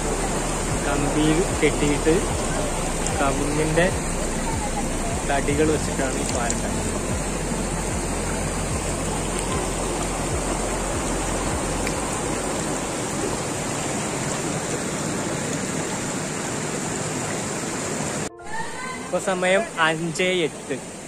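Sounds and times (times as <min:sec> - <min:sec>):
river rushing over boulders: 0:00.0 - 0:18.3, 0:19.1 - 0:21.0.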